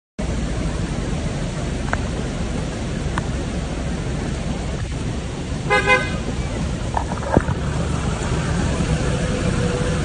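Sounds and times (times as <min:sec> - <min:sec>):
heavy rain falling: 0:00.2 - 0:10.0
low rumble: 0:00.2 - 0:10.0.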